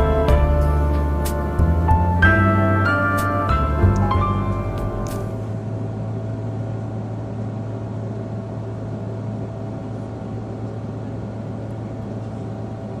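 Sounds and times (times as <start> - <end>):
aircraft cabin engine rush: 0.0 - 13.0
constant low hum: 0.0 - 13.0.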